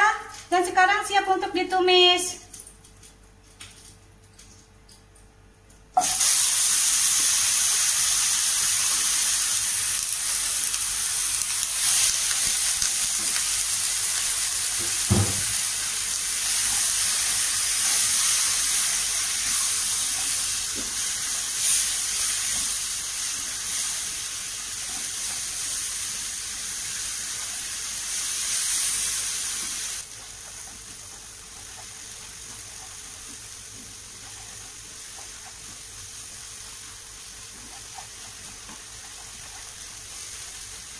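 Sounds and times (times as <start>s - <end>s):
paste sizzling in hot oil: 6.0s - 40.9s.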